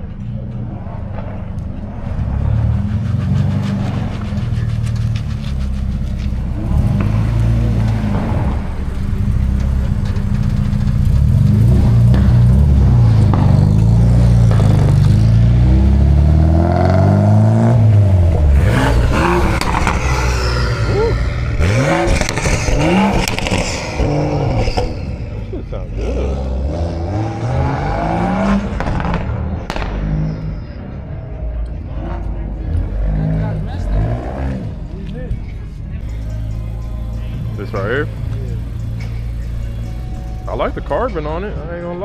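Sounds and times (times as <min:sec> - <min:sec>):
car engines revving: 0:00.0 - 0:42.0.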